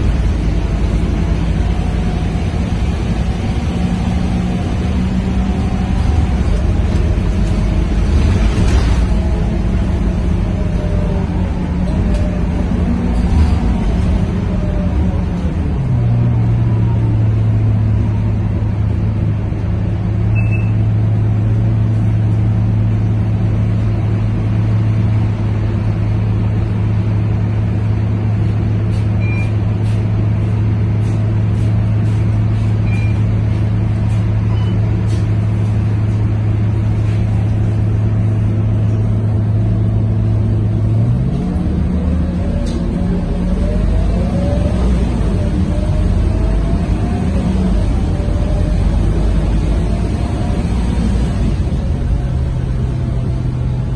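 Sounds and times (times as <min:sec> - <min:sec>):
bus diesel engine hum: 0:00.0 - 0:53.9.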